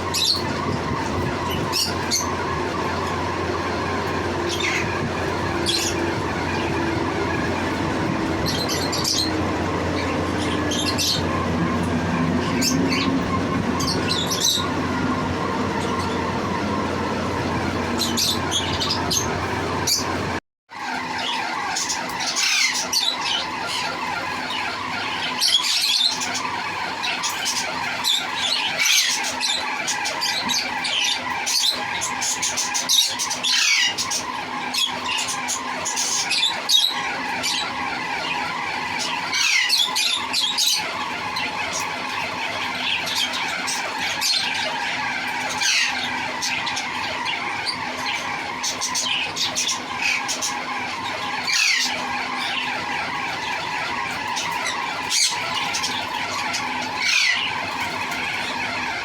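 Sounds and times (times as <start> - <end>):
parrot squawking and chirping: 0.0 - 59.0
steady background hum: 0.0 - 59.0.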